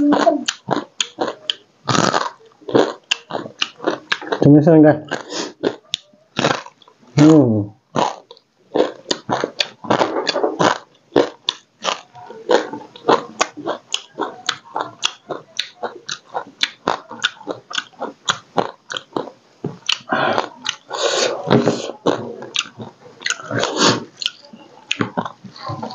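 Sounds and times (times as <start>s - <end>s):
chewing and crunching crabs: 0.0s - 7.0s, 7.9s - 25.9s.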